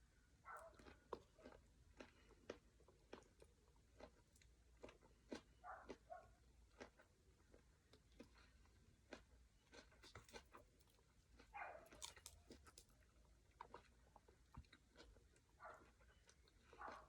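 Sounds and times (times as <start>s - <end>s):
person chewing food: 0.4s - 17.0s.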